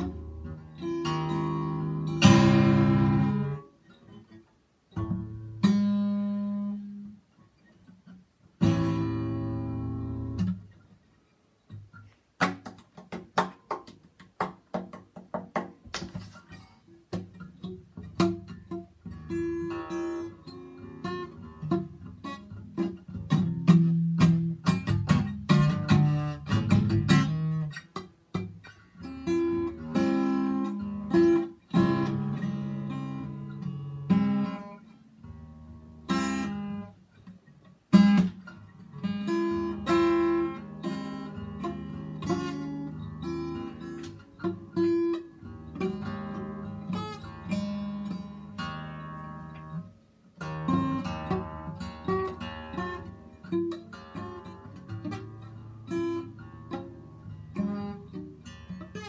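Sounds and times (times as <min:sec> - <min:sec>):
acoustic guitar strumming: 0:00.0 - 0:10.9, 0:16.2 - 0:59.0.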